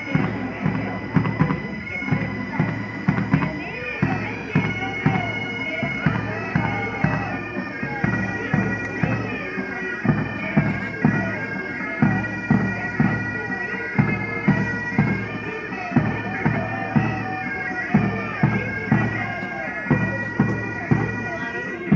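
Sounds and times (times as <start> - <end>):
bagpipe melody over drones: 0.0 - 21.9
drum beat: 0.0 - 21.9.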